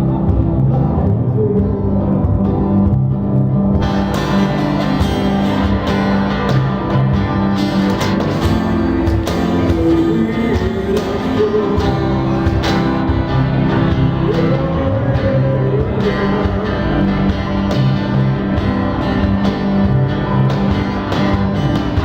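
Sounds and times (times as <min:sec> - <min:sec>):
strummed acoustic guitars: 0:00.0 - 0:22.0.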